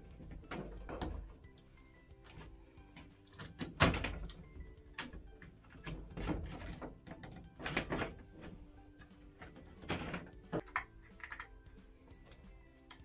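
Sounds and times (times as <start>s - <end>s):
cable cores rustling and scraping: 0.0s - 13.0s.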